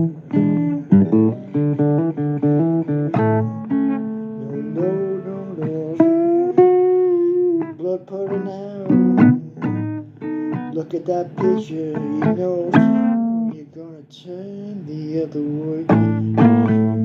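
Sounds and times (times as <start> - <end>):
acoustic blues guitar: 0.0 - 17.0.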